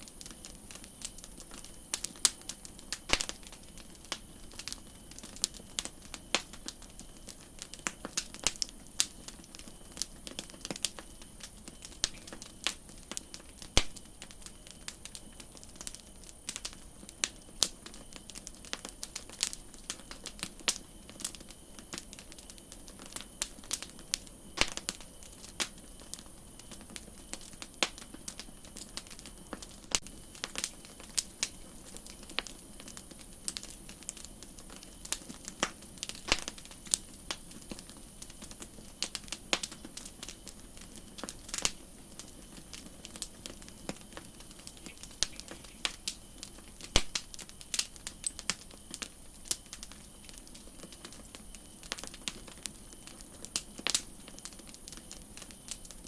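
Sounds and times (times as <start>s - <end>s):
campfire crackling and popping: 0.0s - 56.0s
soft steady hiss: 0.0s - 56.0s.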